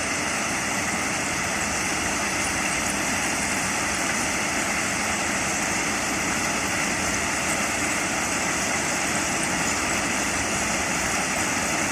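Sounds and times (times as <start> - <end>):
railway machine engine running: 0.0 - 11.9.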